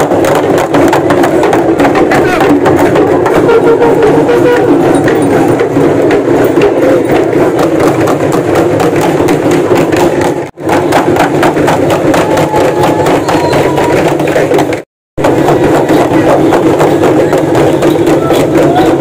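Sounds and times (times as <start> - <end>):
fast drumming: 0.0 - 19.0.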